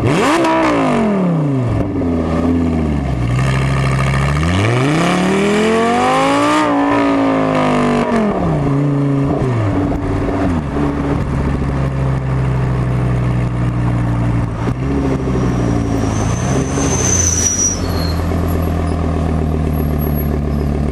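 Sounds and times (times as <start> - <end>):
sports car engine revving: 0.0 - 20.9.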